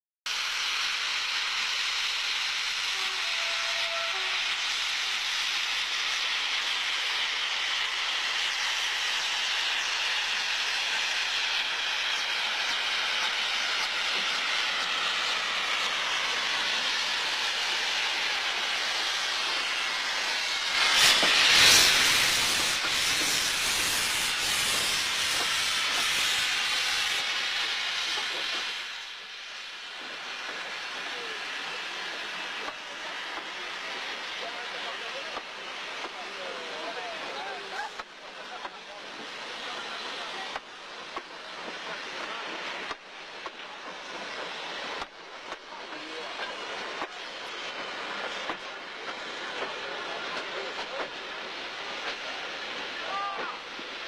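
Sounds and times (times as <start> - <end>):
steam locomotive hissing: 0.3 - 54.0.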